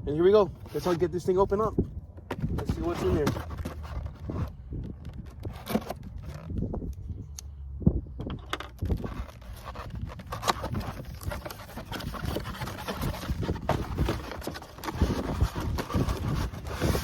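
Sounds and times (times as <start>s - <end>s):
rustling: 0.5s - 7.2s, 8.7s - 17.0s
cardboard box being unpacked: 0.6s - 1.6s, 2.3s - 6.6s, 8.7s - 17.0s.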